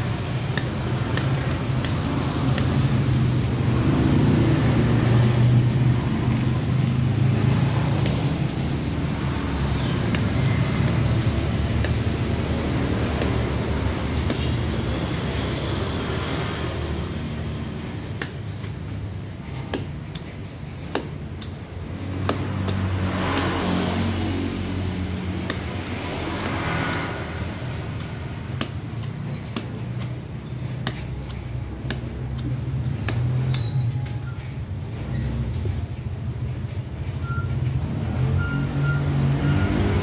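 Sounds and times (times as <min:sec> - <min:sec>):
low traffic rumble: 0:00.0 - 0:40.0.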